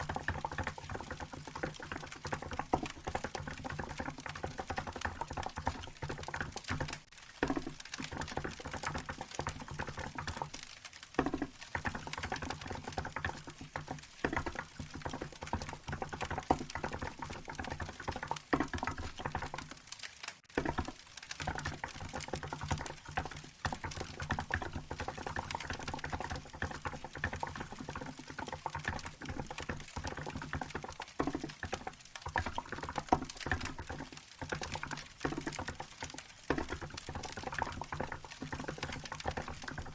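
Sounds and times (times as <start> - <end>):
keyboard typing clacks: 0.0 - 19.8, 20.5 - 39.9
wood fire crackling: 0.0 - 39.9.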